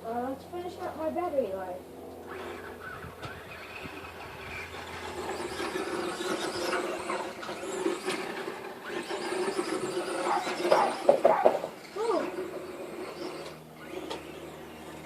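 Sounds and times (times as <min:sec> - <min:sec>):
toy car electric motor whining: 0:02.2 - 0:15.0.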